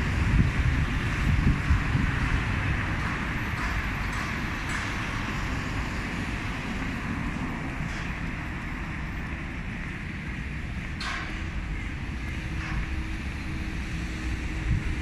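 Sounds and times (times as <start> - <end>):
street traffic: 0.0 - 15.0
wind buffeting microphone: 0.0 - 15.0.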